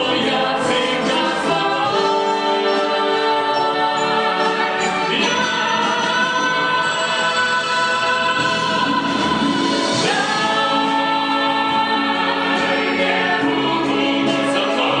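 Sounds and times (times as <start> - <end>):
chorus singing: 0.0 - 15.0
man and woman singing: 0.0 - 15.0
musical accompaniment: 0.0 - 15.0.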